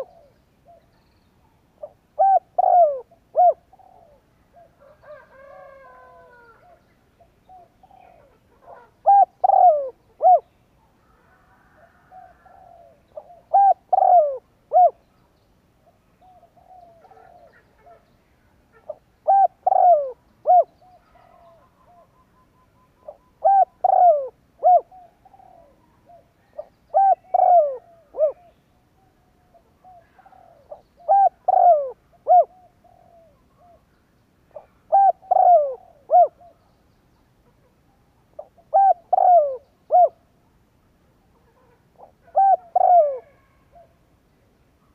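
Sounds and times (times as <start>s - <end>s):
dove cooing: 0.0s - 0.9s, 1.8s - 15.0s, 16.2s - 18.1s, 18.7s - 22.3s, 23.0s - 28.6s, 29.4s - 33.8s, 34.5s - 36.6s, 38.4s - 40.2s, 41.3s - 44.0s
faint bird chirps: 0.0s - 5.7s, 6.3s - 40.2s.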